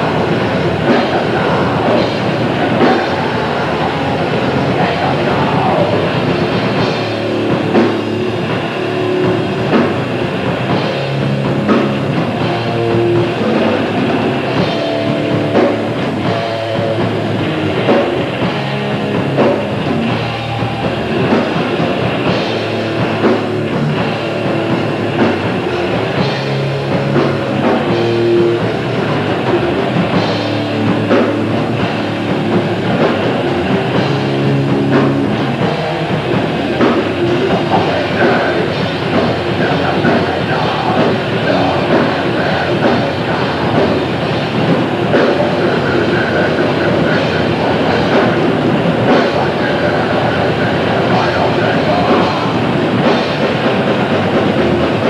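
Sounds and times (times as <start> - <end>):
distorted electric guitars and bass: 0.0 - 55.0
fast dense drumming: 0.0 - 55.0.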